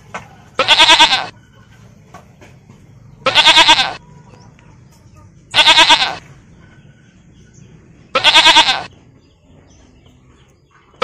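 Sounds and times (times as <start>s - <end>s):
farm animal calling: 0.0s - 11.0s.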